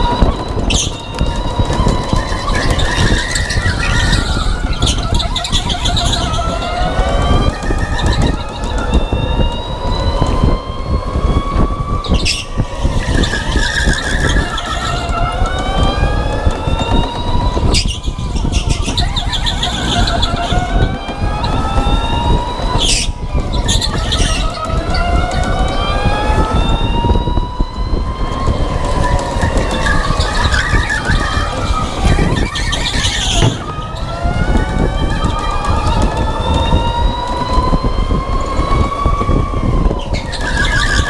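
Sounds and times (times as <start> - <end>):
wind and chassis rumble: 0.0 - 41.0.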